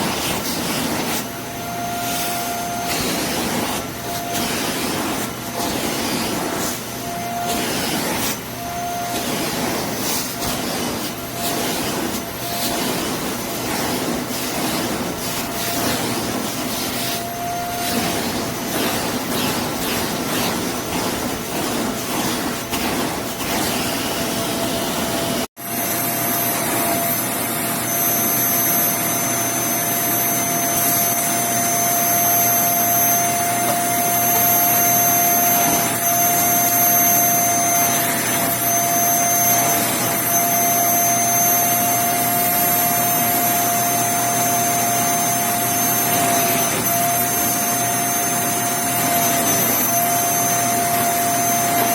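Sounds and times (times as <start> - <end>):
vacuum cleaner running with whine: 0.0 - 51.9.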